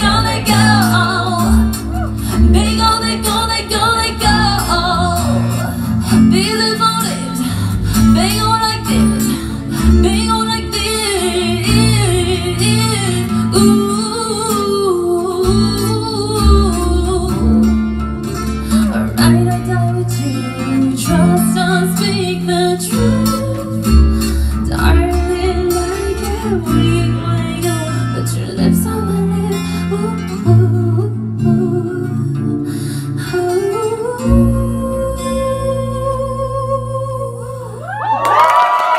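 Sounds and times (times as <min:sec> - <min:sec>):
low bass notes: 0:00.0 - 0:32.6
woman singing into microphone: 0:00.0 - 0:38.9.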